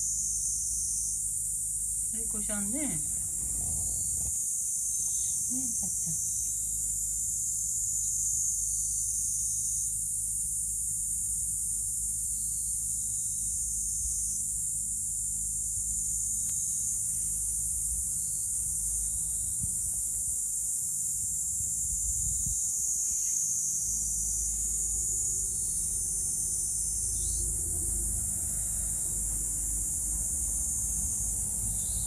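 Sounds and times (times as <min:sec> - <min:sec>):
steady high hiss: 0:00.0 - 0:32.0.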